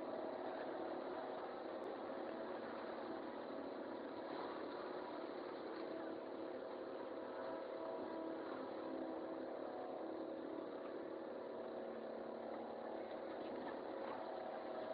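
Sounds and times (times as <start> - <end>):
excavator engine humming: 0.0 - 14.9.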